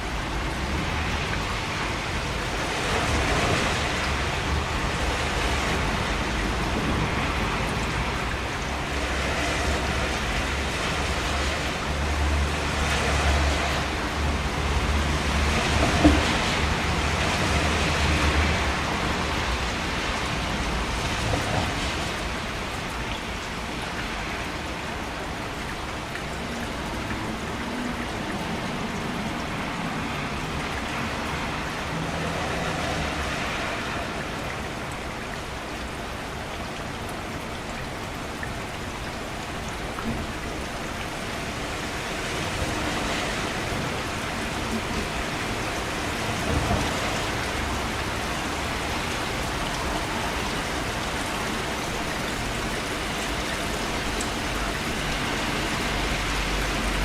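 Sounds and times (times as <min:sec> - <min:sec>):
rain drops pattering: 0:00.0 - 0:57.0.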